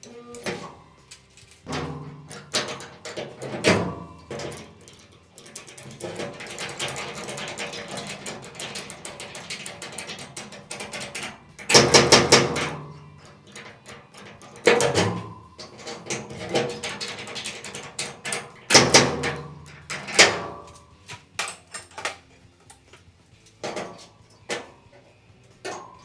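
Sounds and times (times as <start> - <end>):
metallic clicks and knocks: 0.3 - 26.0.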